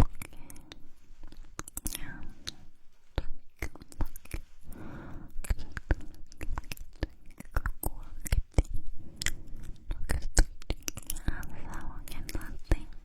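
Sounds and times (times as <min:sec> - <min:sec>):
wet mouth clicks and smacks: 0:00.0 - 0:12.9
breathy whisper: 0:00.1 - 0:13.0.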